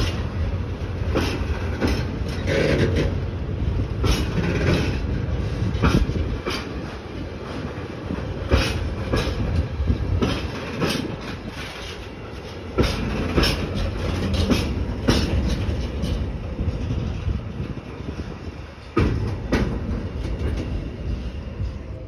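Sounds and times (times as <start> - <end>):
freight train rumble: 0.0 - 22.0.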